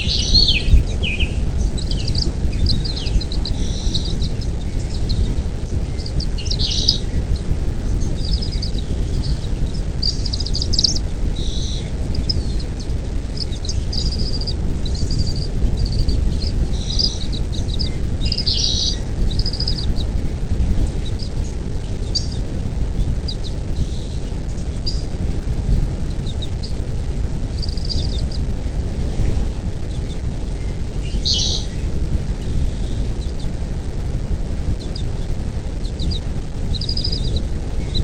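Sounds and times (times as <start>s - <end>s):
birds chirping: 0.0s - 34.0s, 34.6s - 38.0s
wind on microphone: 0.0s - 38.0s.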